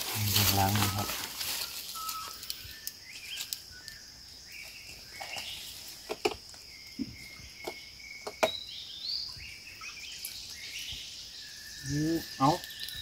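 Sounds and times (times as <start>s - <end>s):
birds calling: 0.0s - 13.0s
insect buzz: 0.0s - 13.0s.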